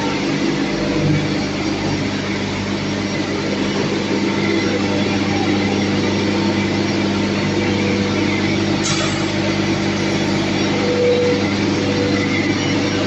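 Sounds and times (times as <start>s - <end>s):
hammer mill grinding drone: 0.0s - 13.0s
motor hum: 0.0s - 13.0s.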